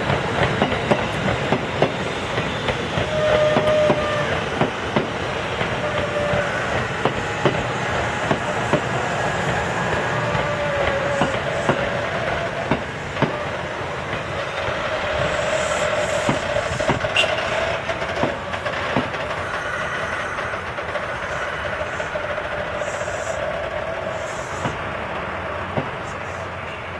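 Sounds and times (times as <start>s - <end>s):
steady train whine: 0.0s - 26.9s
train wheels clacking over rail joints: 0.0s - 26.9s.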